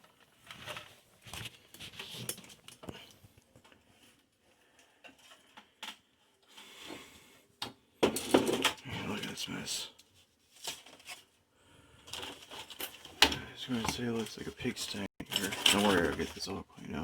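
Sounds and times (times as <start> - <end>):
rummaging through clutter: 0.0 - 7.1, 8.0 - 11.4, 12.0 - 17.0.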